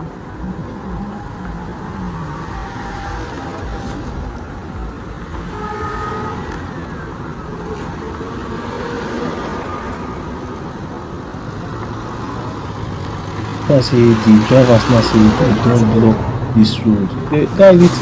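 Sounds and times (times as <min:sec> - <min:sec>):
traffic engines rumbling: 0:00.0 - 0:18.0.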